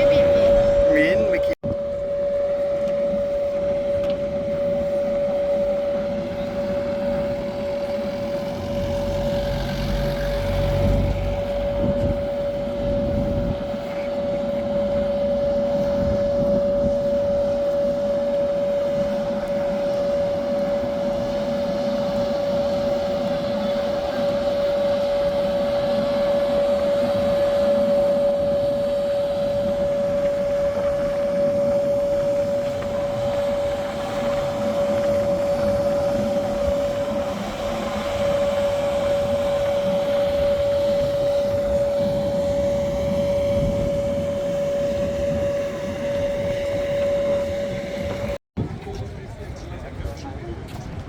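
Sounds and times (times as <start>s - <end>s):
engine whine over rushing noise: 0.0s - 50.3s.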